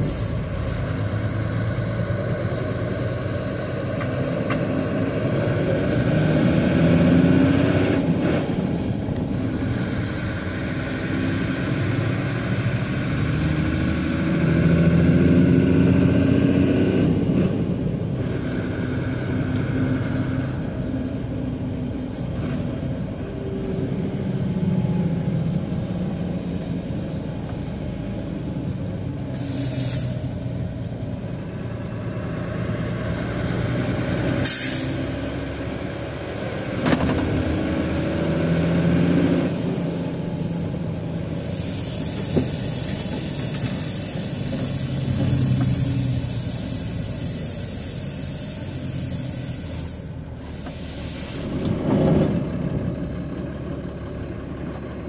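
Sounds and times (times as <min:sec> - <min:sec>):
truck engine accelerating: 0:00.0 - 0:55.0.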